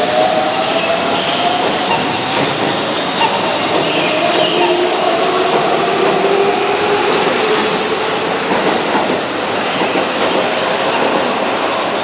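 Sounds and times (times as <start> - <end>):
wheel and rail noise: 0.0 - 12.0.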